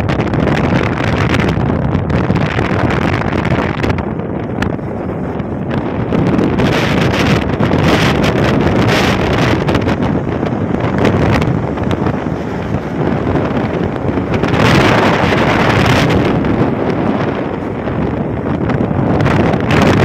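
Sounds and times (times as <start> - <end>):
low road rumble: 0.0 - 20.0
wind buffeting microphone: 0.0 - 20.0
truck passing: 2.2 - 20.0.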